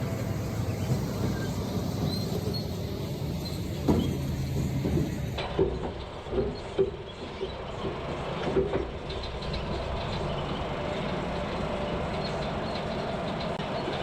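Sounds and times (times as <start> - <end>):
truck engine rattling rumble: 0.0 - 14.0.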